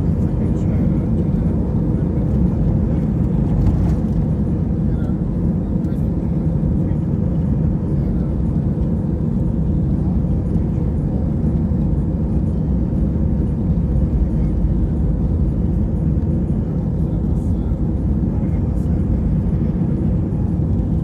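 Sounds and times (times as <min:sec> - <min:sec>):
jet engine cabin rumble: 0:00.0 - 0:21.0.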